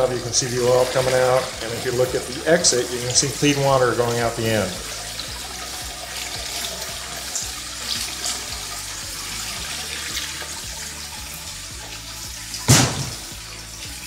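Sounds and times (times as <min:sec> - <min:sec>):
water running from spout and splashing: 0:00.0 - 0:14.0.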